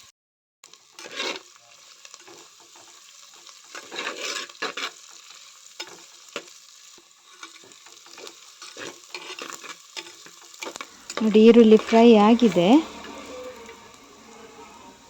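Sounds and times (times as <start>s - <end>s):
food sizzling in hot oil: 0.6s - 15.0s
stirring strokes in a pan: 0.7s - 15.0s.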